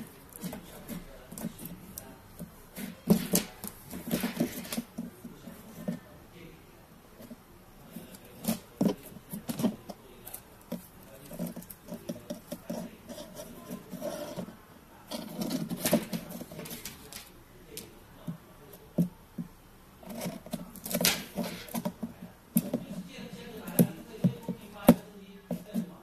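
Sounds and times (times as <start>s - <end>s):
hands handling tape: 0.0s - 6.0s, 7.2s - 18.3s, 20.0s - 26.0s.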